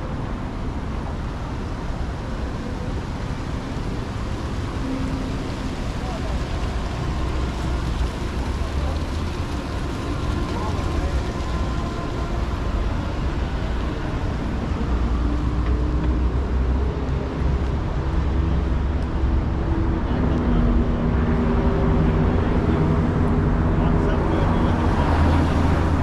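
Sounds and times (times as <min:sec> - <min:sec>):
street traffic rumble: 0:00.0 - 0:26.0
vehicle engine approaching: 0:03.6 - 0:26.0.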